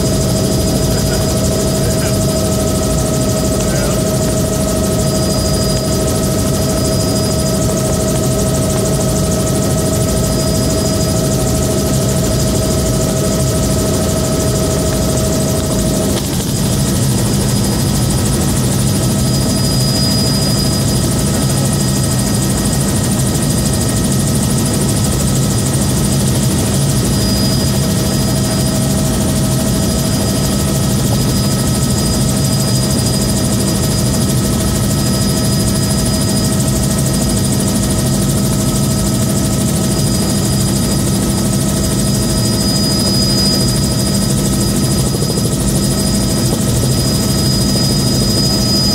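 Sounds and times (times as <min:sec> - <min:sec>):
helicopter main rotor: 0:00.0 - 0:48.9
helicopter turbine whine: 0:00.0 - 0:48.9.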